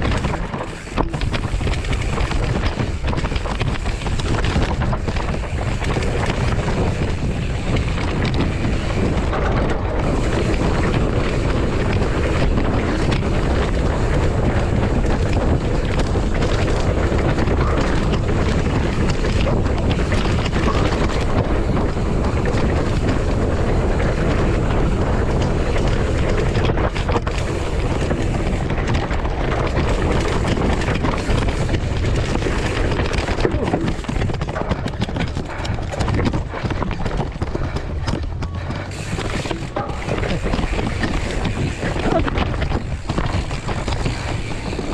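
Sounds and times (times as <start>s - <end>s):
bike knocks and rattles: 0.0s - 44.9s
wind buffeting microphone: 0.0s - 44.9s.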